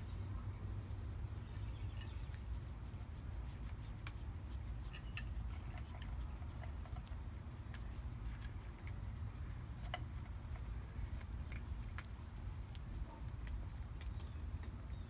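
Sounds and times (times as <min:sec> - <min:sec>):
faint clicks and rustles: 0:00.0 - 0:15.0
steady low rumble: 0:00.0 - 0:15.0
fingers scratching cat fur: 0:00.6 - 0:14.9.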